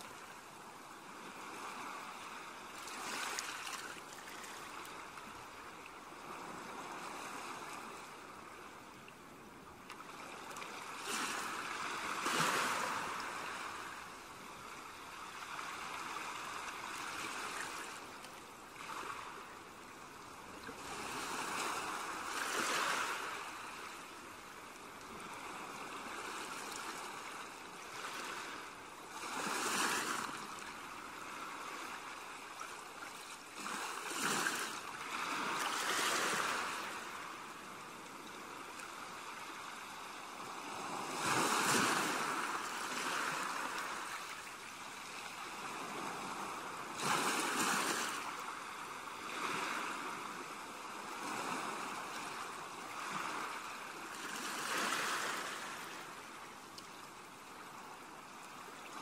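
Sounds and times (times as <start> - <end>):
sea waves breaking on beach: 0.0 - 8.8, 10.0 - 56.6.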